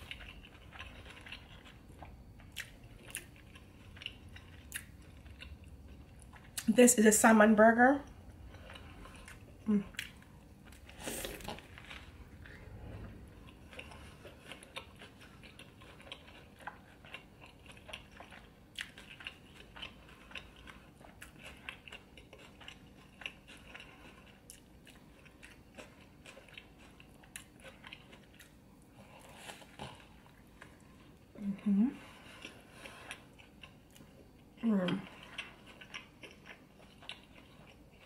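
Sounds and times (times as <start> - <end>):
close chewing: 0.0 - 6.7, 8.3 - 31.3, 31.9 - 38.0.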